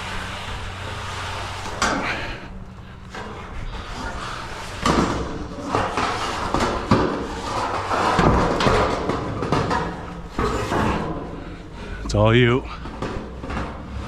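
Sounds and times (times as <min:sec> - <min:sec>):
metal panels scraping and rattling: 0:00.0 - 0:12.0.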